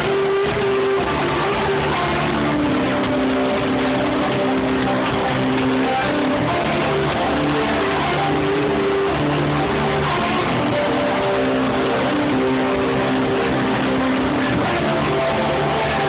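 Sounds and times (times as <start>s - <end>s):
live electronic rock band: 0.0s - 16.0s.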